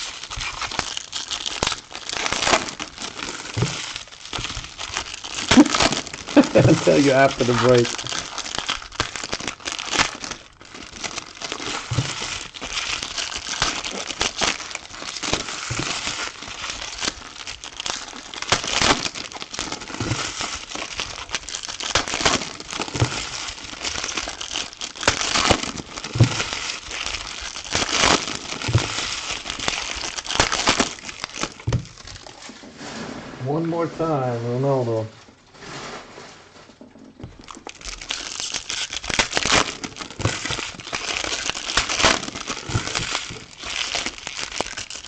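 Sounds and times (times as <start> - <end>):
card pack wrappers crinkling: 0.0 - 32.7, 37.1 - 45.0.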